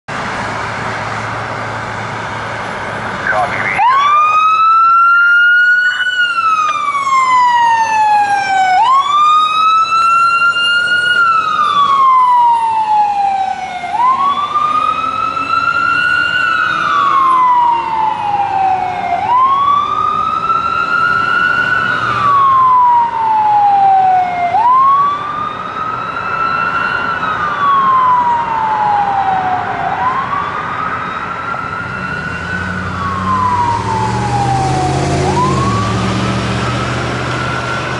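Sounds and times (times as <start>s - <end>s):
fire engine siren wailing: 0.2s - 37.9s.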